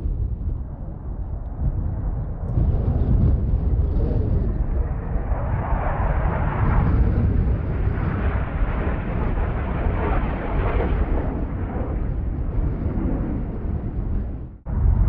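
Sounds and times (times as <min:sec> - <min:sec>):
jet engines passing overhead: 0:00.0 - 0:15.0.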